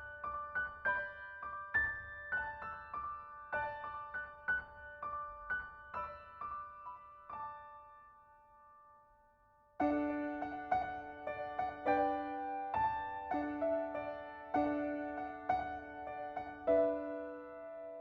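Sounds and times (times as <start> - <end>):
gentle solo piano music: 0.0 - 18.0.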